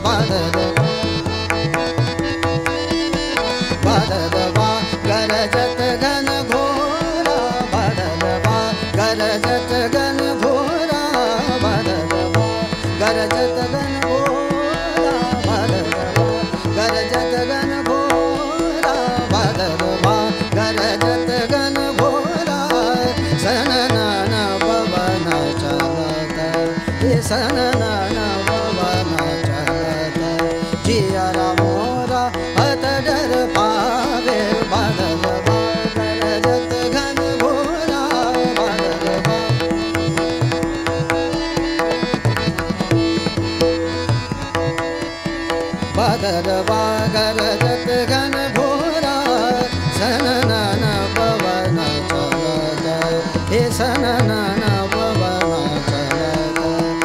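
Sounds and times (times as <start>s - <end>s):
person singing ornamented phrases: 0.0s - 57.0s
tabla rhythm: 0.0s - 57.0s.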